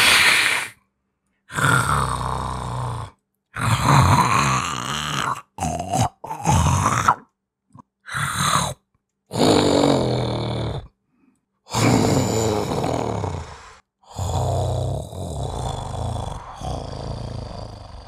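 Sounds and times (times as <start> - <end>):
person performing monster growls: 0.0 - 0.8, 1.5 - 11.0, 11.7 - 18.0.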